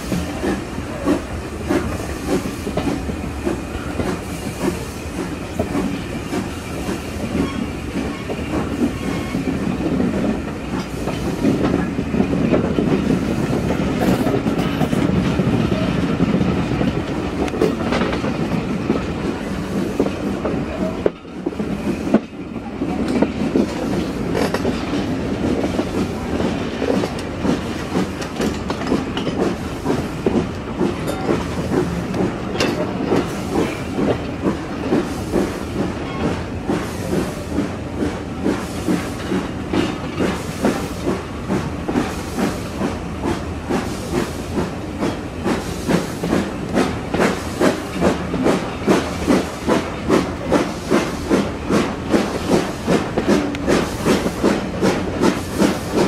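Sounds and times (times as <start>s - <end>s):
steam locomotive exhaust beats: 0.0s - 56.0s
train wheels clacking on rails: 0.0s - 56.0s.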